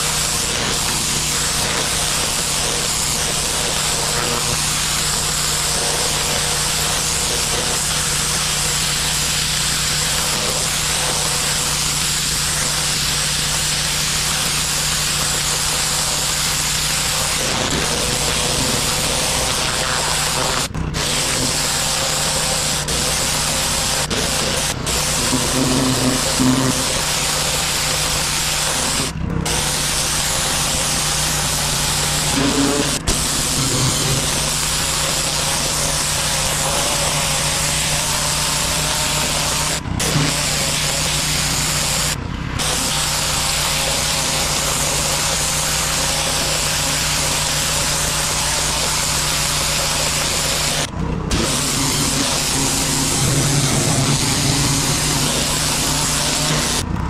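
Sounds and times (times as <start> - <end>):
pressure washer spray hiss: 0.0 - 56.8.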